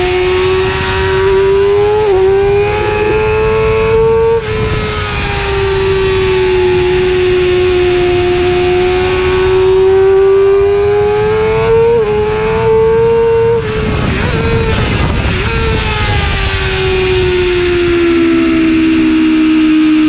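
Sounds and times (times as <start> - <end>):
racing motorcycle engine revving: 0.0 - 20.0
wind rush: 0.0 - 20.0.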